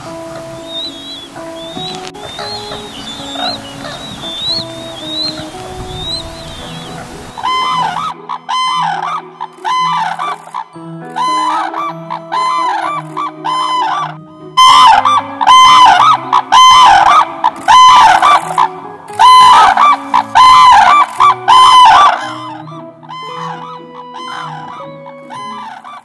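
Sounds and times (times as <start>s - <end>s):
cranes trumpeting calls: 0.0s - 26.0s
soft music: 0.0s - 26.0s.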